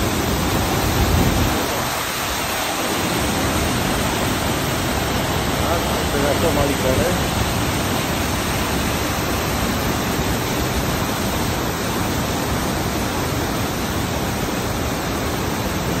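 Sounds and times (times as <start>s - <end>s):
white water rushing: 0.0s - 16.0s.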